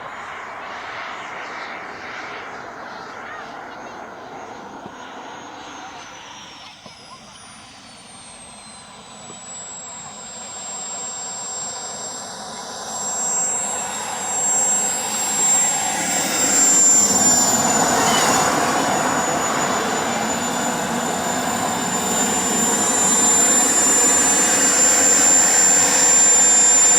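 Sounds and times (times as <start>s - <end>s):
jet turbine engine whining: 0.0s - 26.9s.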